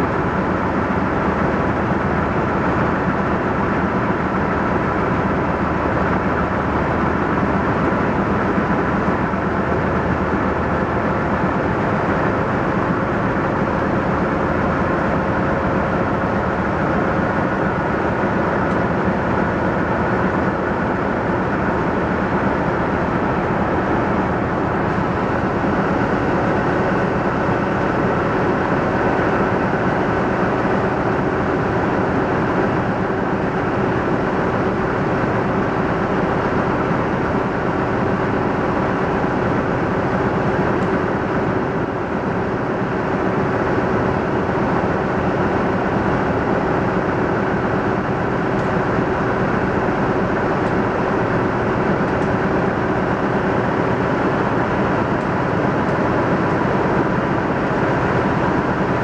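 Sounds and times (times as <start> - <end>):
train engine drone: 0.0 - 59.0.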